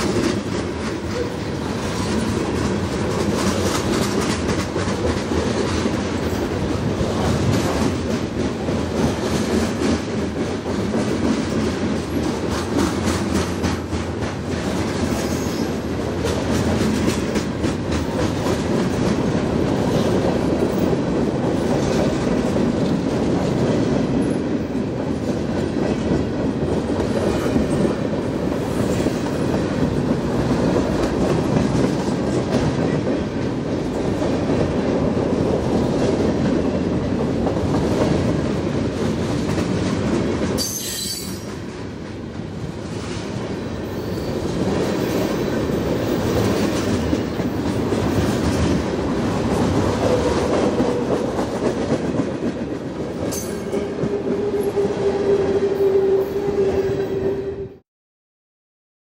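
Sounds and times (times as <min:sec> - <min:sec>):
freight train wheels rumbling on rail: 0:00.0 - 0:57.8.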